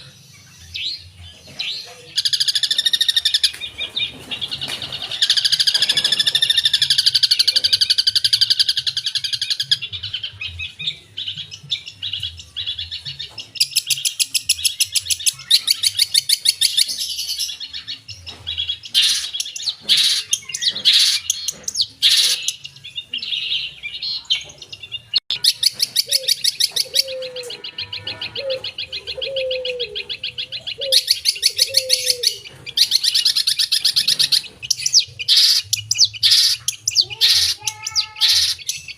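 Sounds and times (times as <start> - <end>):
bird singing with rattling trills: 0.0 - 38.9.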